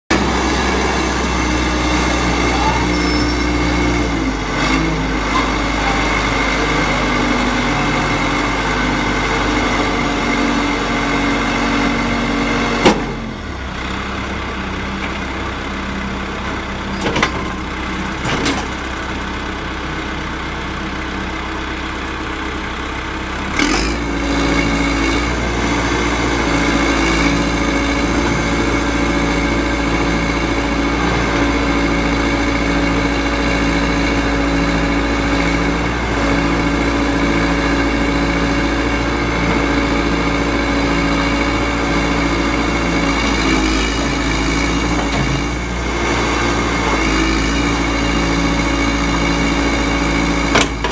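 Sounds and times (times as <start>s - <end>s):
diesel engine running: 0.1s - 50.9s.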